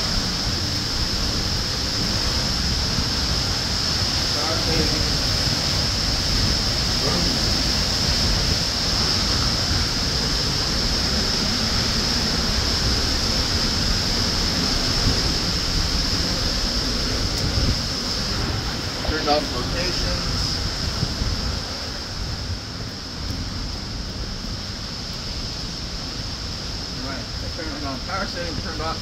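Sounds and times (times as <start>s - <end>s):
waterfall crashing into pool: 0.0s - 29.0s.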